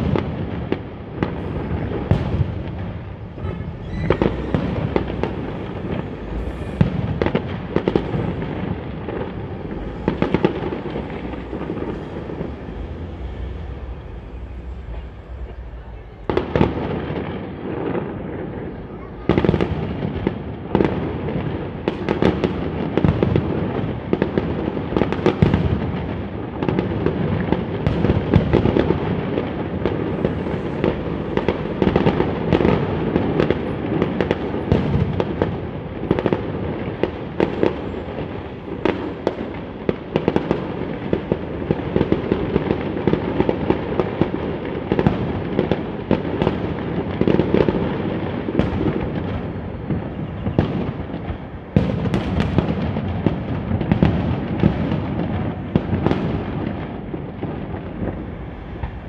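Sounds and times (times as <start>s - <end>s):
fireworks bangs: 0.0s - 59.0s
loud fireworks cracks: 0.0s - 59.0s.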